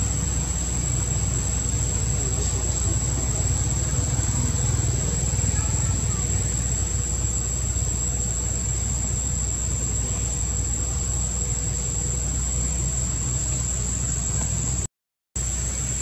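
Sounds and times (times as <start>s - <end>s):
high-pitched insect drone: 0.0s - 16.0s
low even rumble: 0.0s - 16.0s.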